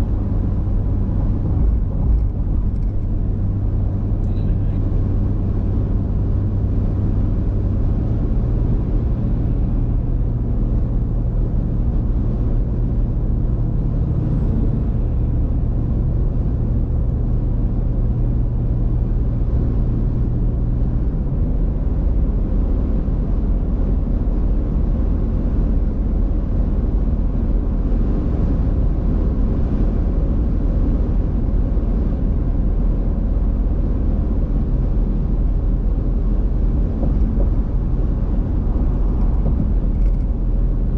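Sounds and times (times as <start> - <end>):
car engine and road noise: 0.0 - 40.9
low hum: 0.0 - 40.9.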